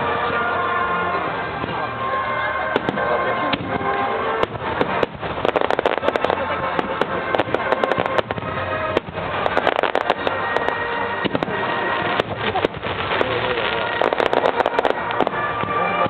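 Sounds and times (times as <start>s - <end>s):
fireworks cracking and popping: 0.0s - 16.0s
music playing: 0.0s - 16.0s.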